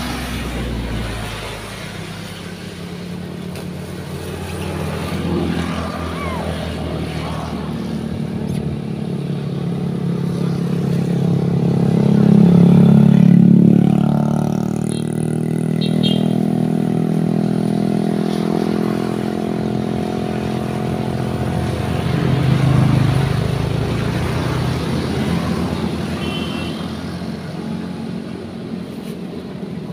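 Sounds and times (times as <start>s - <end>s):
motorbikes and cars passing: 0.0s - 29.9s.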